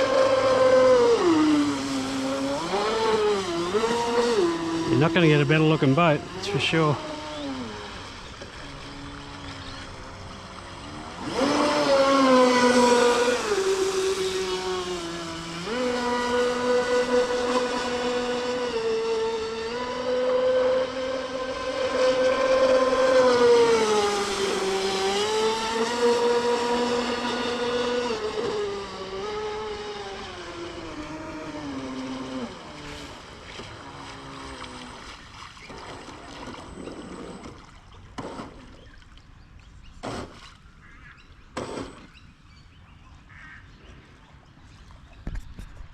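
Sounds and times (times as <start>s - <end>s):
electric model speedboat whine: 0.0s - 42.8s.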